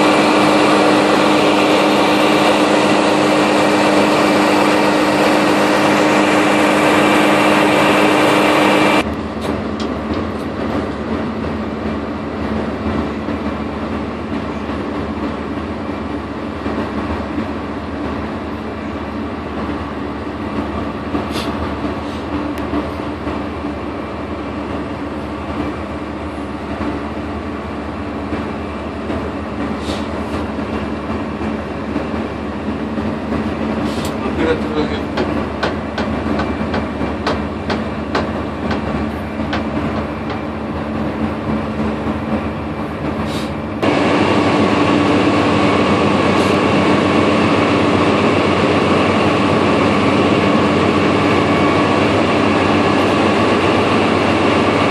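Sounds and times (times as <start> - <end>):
drilling rig machinery running: 0.0 - 54.9.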